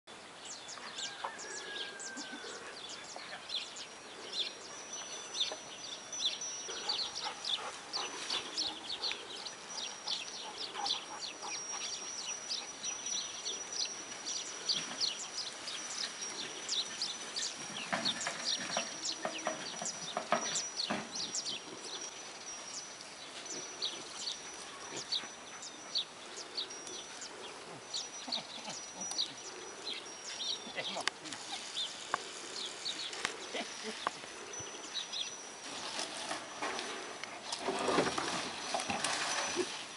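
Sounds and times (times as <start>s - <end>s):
birds chirping: 0.1s - 39.9s.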